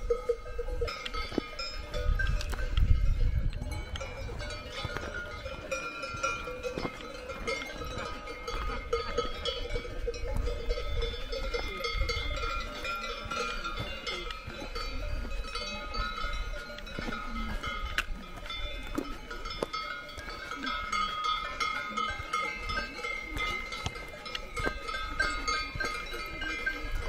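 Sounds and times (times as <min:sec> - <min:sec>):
cowbells ringing: 0:00.0 - 0:27.0.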